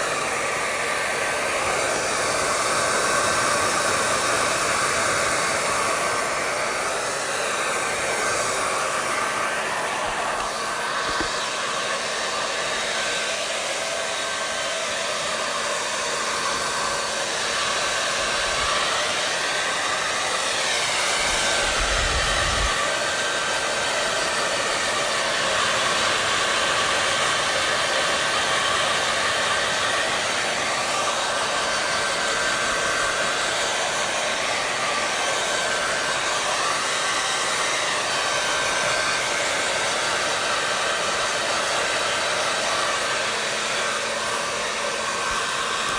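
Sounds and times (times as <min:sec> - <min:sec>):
hair dryer blowing air: 0:00.0 - 0:45.9.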